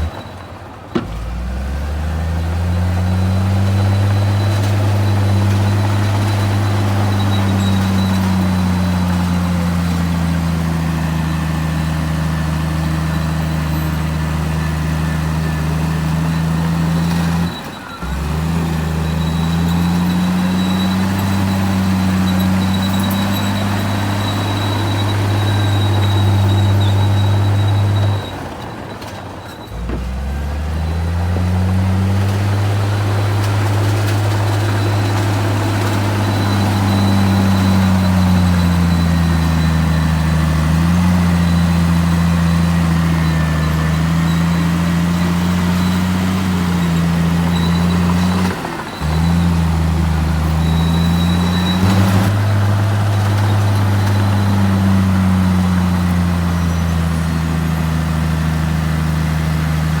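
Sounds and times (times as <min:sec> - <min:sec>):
heavy diesel engine revving: 0:00.0 - 0:28.9, 0:29.6 - 1:00.0.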